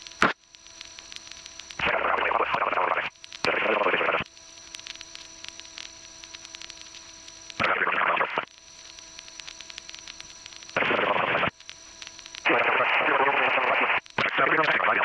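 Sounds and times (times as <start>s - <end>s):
electrical hum and whine: 0.0s - 15.0s
radio static bursts: 0.0s - 15.0s.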